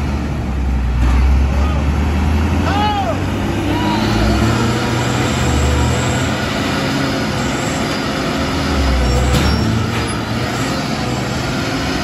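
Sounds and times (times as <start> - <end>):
diesel truck engine working hard: 0.0 - 12.0.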